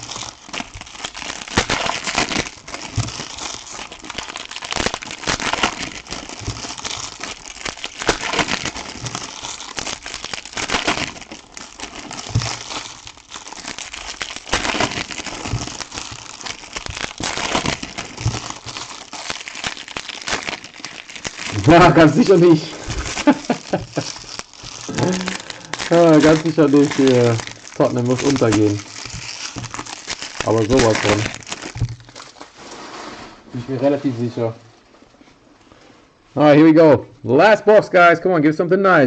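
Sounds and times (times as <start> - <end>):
foil wrappers crinkling and tearing: 0.0 - 34.4.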